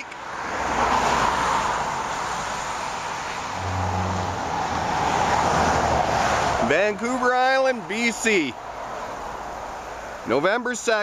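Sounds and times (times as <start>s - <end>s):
rush of passing tyres: 0.0s - 10.4s.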